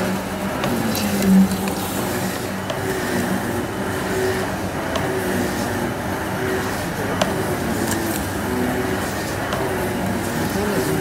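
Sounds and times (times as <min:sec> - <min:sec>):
workshop machinery running: 0:00.0 - 0:11.0.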